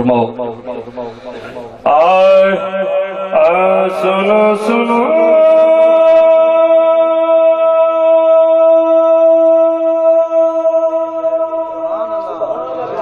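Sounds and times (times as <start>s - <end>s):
man singing a long note: 0.3s - 13.0s.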